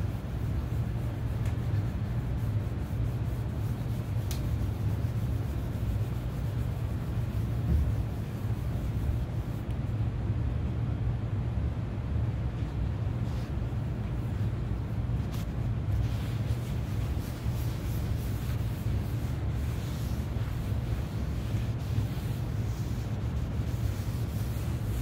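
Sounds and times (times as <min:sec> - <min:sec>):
cloth rubbing on wood: 0:00.0 - 0:09.7, 0:13.2 - 0:25.0
low background rumble: 0:00.0 - 0:25.0.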